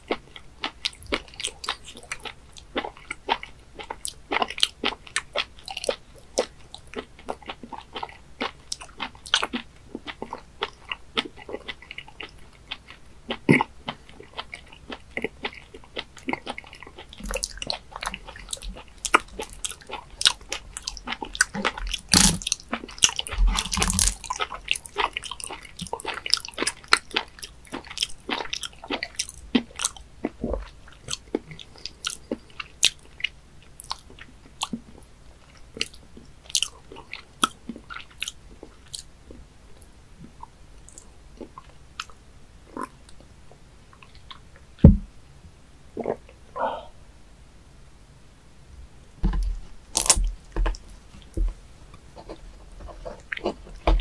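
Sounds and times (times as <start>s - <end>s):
chewing with mouth clicks: 0.0s - 43.3s, 49.9s - 54.0s.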